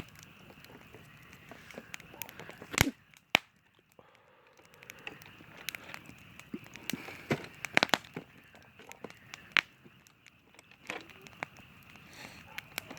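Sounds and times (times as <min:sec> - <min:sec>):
campfire crackling: 0:00.0 - 0:12.9
faint hiss: 0:00.0 - 0:12.9.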